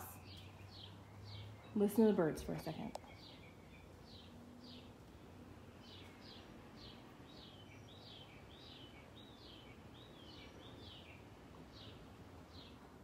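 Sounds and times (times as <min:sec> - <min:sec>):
bird chirps: 0:00.0 - 0:05.0, 0:05.8 - 0:12.8
faint outdoor hiss: 0:00.0 - 0:13.0.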